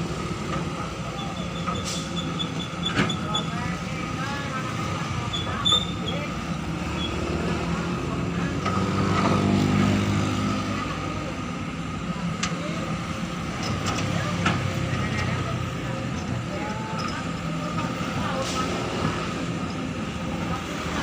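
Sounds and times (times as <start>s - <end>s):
excavator diesel engine: 0.0s - 21.0s.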